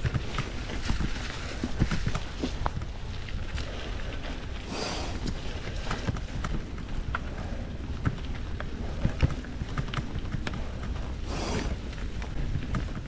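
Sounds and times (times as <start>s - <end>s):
bike clicks and rattles: 0.0s - 13.0s
bike tyres rumbling on trail: 0.0s - 13.0s.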